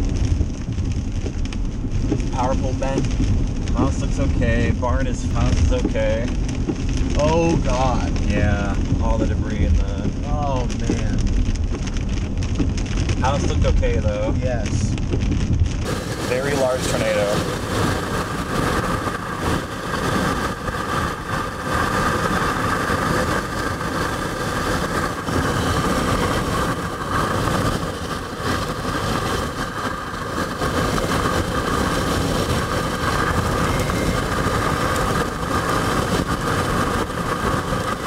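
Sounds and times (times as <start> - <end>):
vehicle road and engine noise: 0.0 - 38.0.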